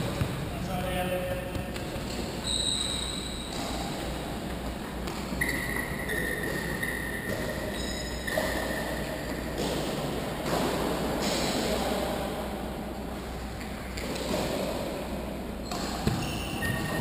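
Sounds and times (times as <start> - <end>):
indoor sports hall noise: 0.0 - 17.0.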